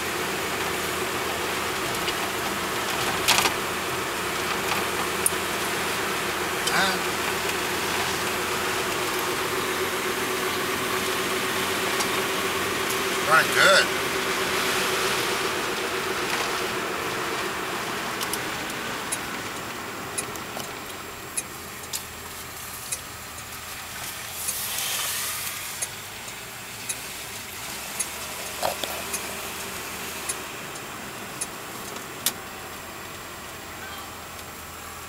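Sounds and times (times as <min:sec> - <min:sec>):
car engine running: 0:00.0 - 0:35.0
road noise: 0:00.0 - 0:35.0.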